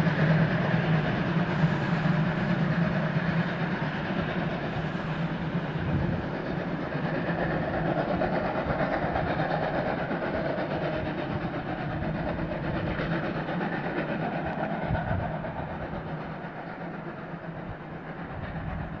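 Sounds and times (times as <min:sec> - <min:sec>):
steam train moving: 0:00.0 - 0:19.0.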